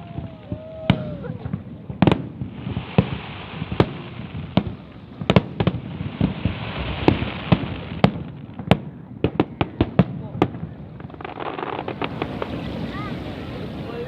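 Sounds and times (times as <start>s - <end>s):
fireworks bangs: 0.0s - 14.0s
fireworks crackle and hiss: 0.0s - 14.0s.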